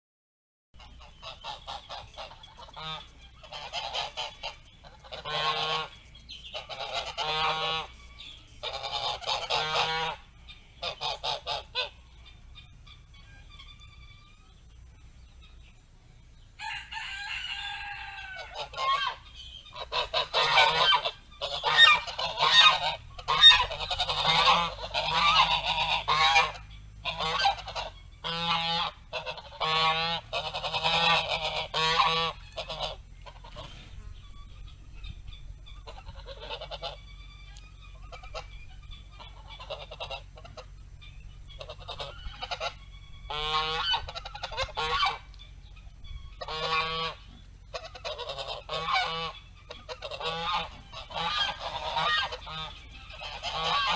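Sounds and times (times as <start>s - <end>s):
geese honking: 0.8s - 53.9s.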